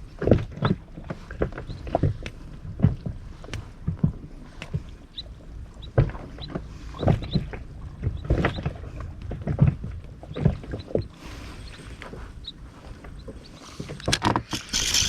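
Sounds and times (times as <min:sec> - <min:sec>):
water slapping against boat hull: 0:00.0 - 0:14.8.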